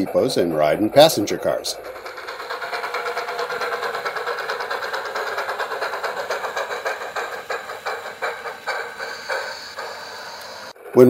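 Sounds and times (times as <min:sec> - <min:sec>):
model train running: 0:00.0 - 0:11.0.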